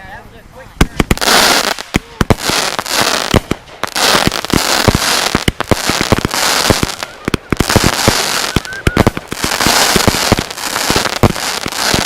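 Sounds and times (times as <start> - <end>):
firework bangs: 0.8 - 12.0
firework hiss: 0.8 - 12.0.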